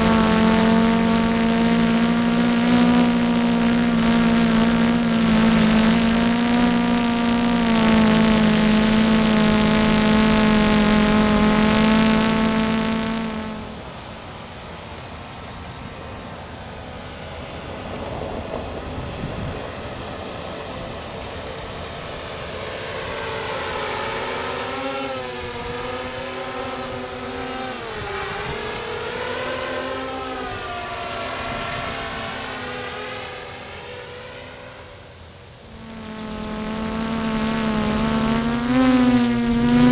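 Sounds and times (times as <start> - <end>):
multicopter propellers whining: 0.0 - 34.8, 35.6 - 39.9.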